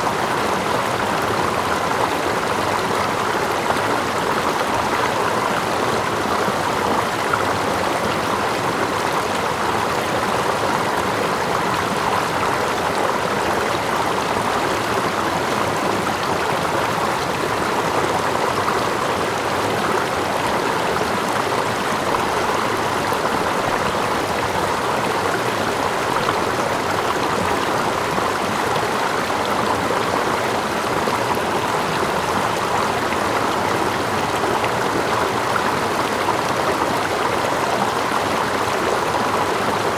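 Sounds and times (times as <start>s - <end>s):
small waterfall: 0.0s - 39.9s.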